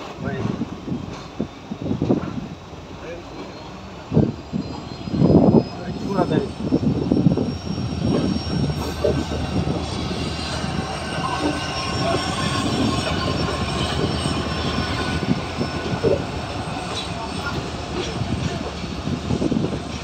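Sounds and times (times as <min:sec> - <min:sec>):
train wheels rumbling on rails: 0:00.0 - 0:20.0
faint high wheel squeal: 0:03.0 - 0:20.0.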